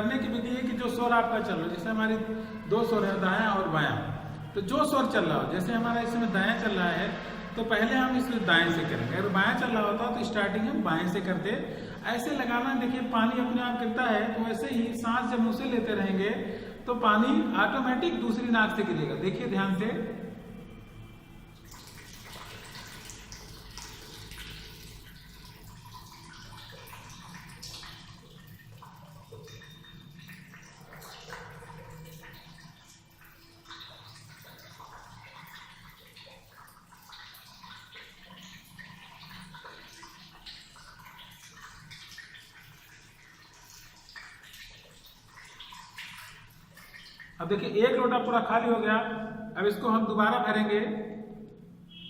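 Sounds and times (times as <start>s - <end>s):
water trickling and splashing: 0.0s - 48.4s.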